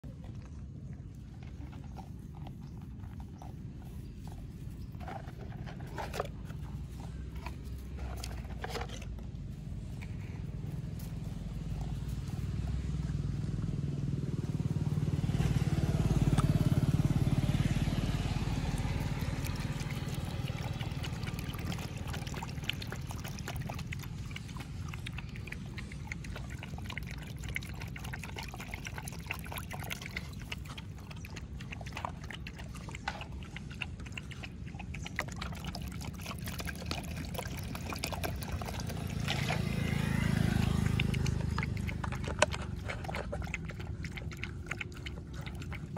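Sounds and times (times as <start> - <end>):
motor vehicle passing by: 0.0 - 45.9.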